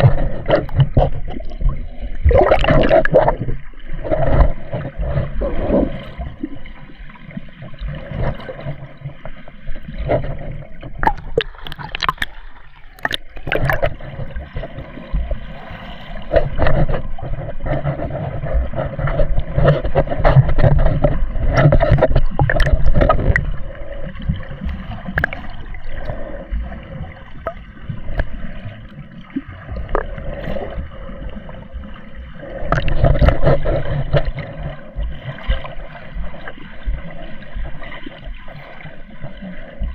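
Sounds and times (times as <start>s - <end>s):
surging underwater rumbles: 0.0s - 39.9s
water sloshing and gurgling: 0.0s - 39.9s.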